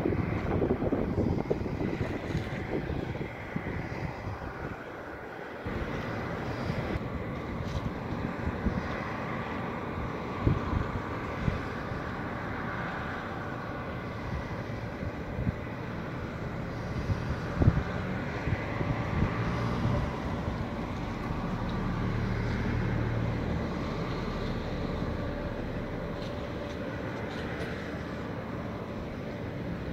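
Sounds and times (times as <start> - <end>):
dredger engine drone: 0.0 - 29.9.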